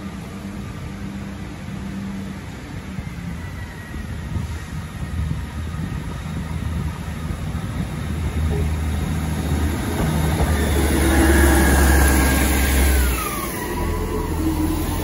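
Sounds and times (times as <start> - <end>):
diesel engine drone: 0.0 - 15.0
train wheels rumbling on track: 0.0 - 15.0.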